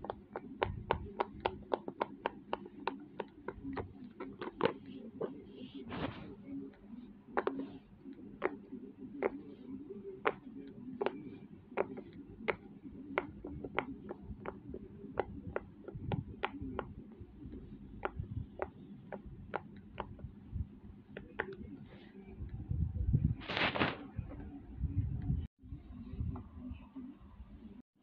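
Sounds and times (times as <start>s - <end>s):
soft handling noise: 0.0s - 25.2s.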